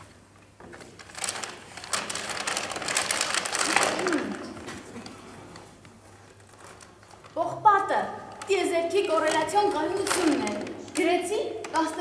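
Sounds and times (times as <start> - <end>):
bag and papers rustling: 0.6 - 7.6, 8.4 - 12.0.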